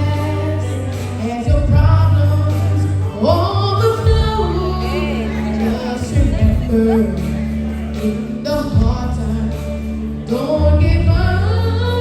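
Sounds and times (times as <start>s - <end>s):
gospel singing: 0.0s - 12.0s
musical accompaniment: 0.0s - 12.0s.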